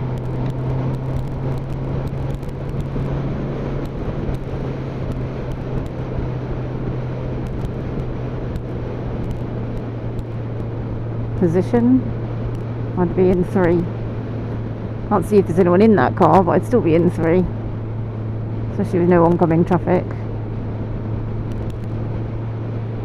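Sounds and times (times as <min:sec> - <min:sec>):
motorcycle engine cruising: 0:00.0 - 0:23.0
wind and road noise: 0:00.0 - 0:23.0.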